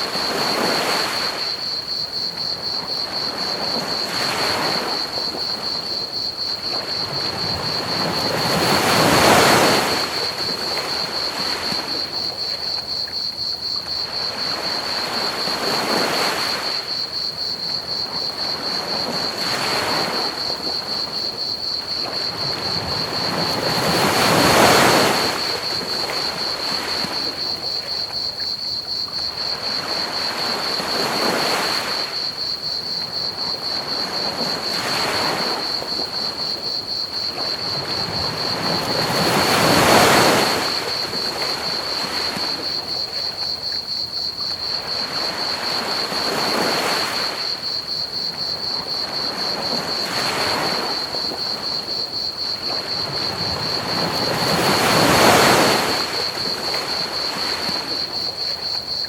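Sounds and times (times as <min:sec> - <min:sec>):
ocean waves breaking on beach: 0:00.0 - 0:12.9, 0:13.9 - 0:27.8, 0:29.2 - 0:32.6, 0:33.2 - 0:44.0, 0:44.6 - 0:59.0
crickets chirping: 0:00.0 - 0:59.0.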